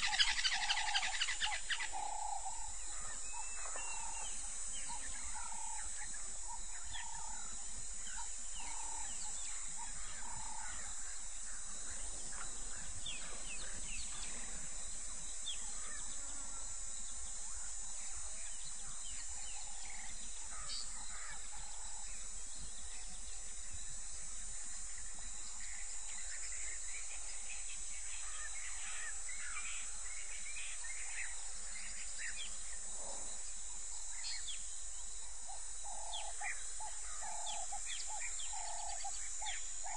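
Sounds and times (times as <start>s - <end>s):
bird calls and chirps: 0.0s - 39.9s.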